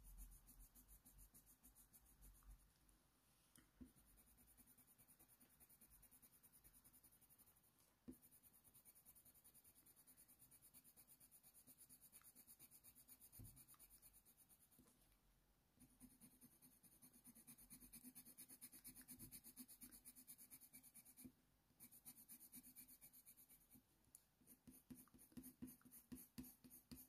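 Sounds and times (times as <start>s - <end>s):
coloured pencil scratching on paper: 0.0s - 2.6s, 3.8s - 14.9s, 15.8s - 23.8s, 24.4s - 27.0s.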